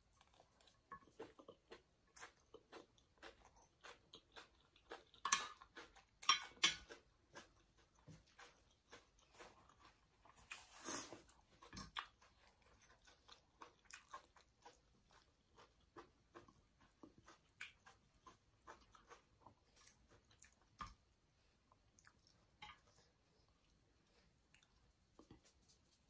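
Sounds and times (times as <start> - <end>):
chewing crunchy food: 0.0 - 26.0.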